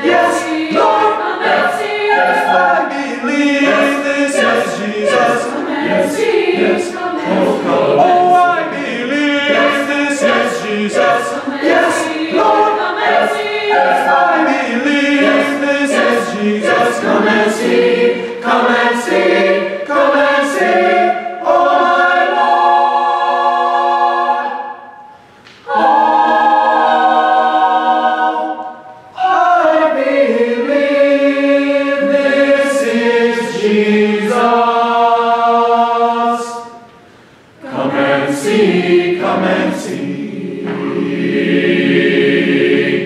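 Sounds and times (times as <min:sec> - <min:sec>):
choir singing in chords: 0:00.0 - 0:43.0.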